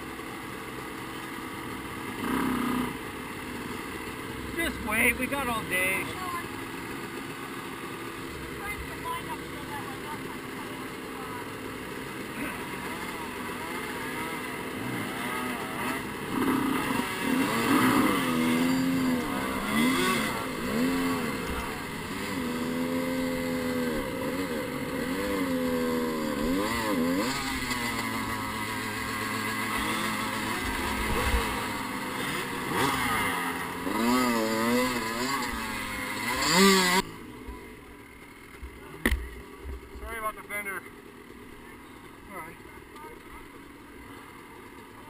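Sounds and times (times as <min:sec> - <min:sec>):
dirt bike engine revving: 0:00.0 - 0:44.8.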